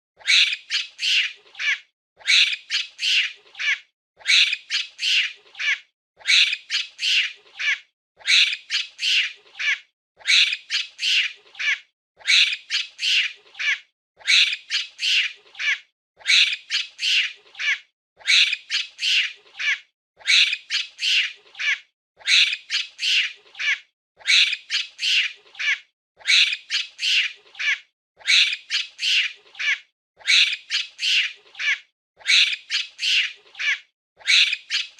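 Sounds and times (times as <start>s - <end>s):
monkey squealing calls: 0.2s - 34.9s.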